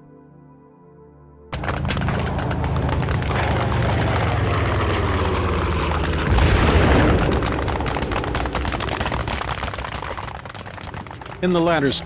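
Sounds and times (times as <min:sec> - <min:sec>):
deep boom: 0:01.6 - 0:11.4
low cinematic rumble and drone: 0:01.6 - 0:12.0.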